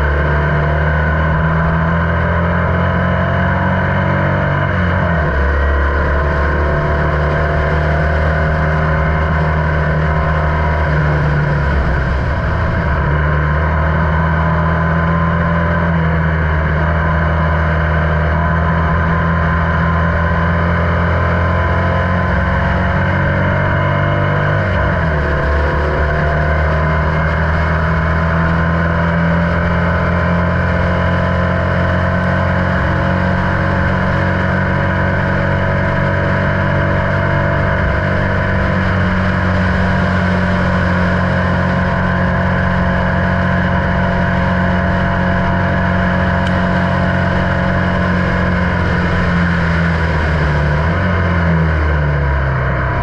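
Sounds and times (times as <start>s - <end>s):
race car engine running flat out: 0.0s - 53.0s.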